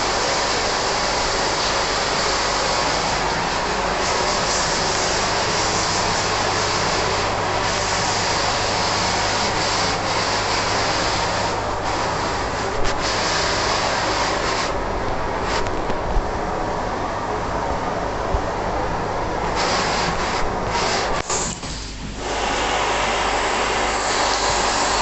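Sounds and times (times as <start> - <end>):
rotating brushes scrubbing car: 0.0 - 14.8, 19.5 - 25.0
water spraying: 0.0 - 15.9, 19.4 - 25.0
machine hum: 0.0 - 25.0.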